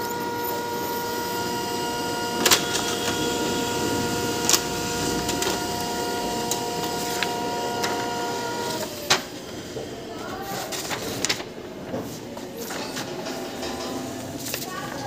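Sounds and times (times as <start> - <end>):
printer mechanical whine: 0.0 - 14.6
paper feed clicks: 0.2 - 13.4.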